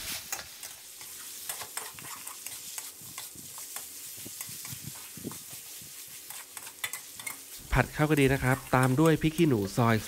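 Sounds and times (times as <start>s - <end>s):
metal spatula scraping a wok: 0.0s - 10.0s
sizzle of frying: 0.0s - 10.0s.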